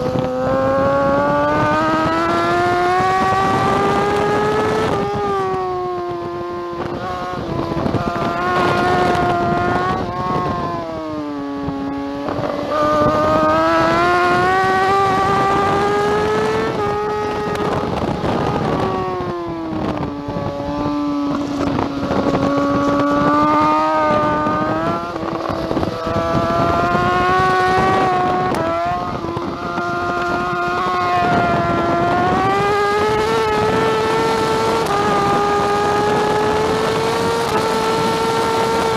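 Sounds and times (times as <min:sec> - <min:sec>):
motorcycle engine revving at race pace: 0:00.0 - 0:38.9.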